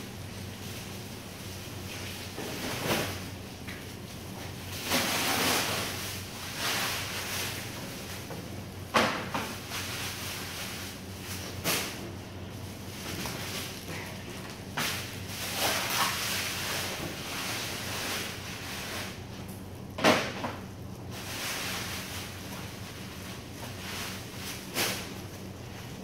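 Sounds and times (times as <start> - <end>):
plastic sack rustling: 0.2 - 19.3, 20.2 - 26.0.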